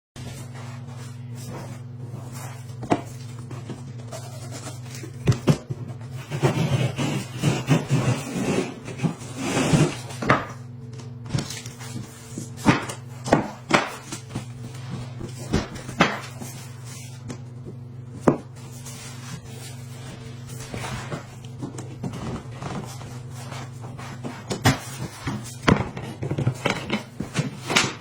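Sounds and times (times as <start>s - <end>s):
steady low hum: 0.2s - 28.0s.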